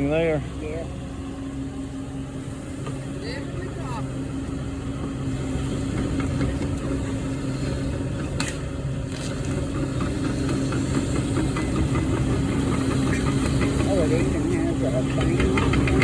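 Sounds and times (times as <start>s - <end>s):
machine engine running: 0.0s - 16.0s.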